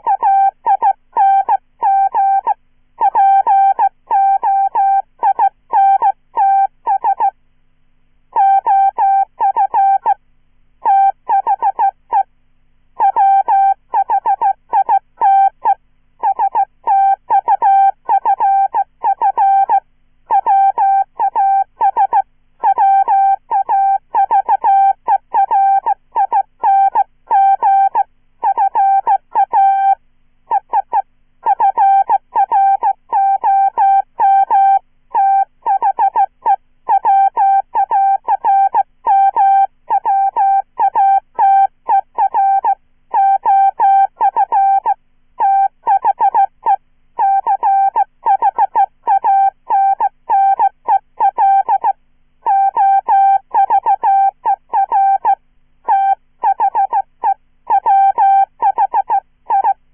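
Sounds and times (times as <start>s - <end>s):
morse code beeps: 0.0s - 7.3s, 8.4s - 10.2s, 10.8s - 12.2s, 13.0s - 59.8s.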